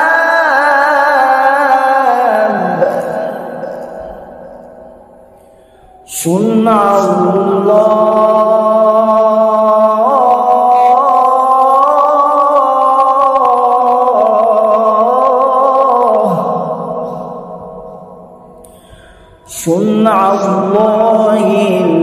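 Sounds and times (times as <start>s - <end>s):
man reciting melodically: 0.0s - 22.0s.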